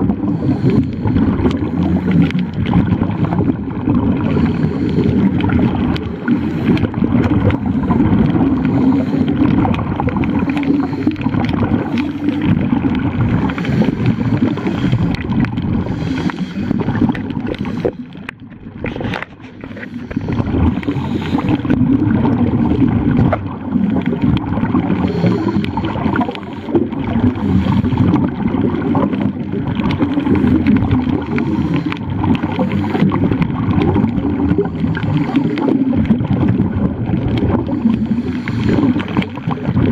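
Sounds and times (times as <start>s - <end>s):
underwater water gurgling: 0.0s - 39.9s.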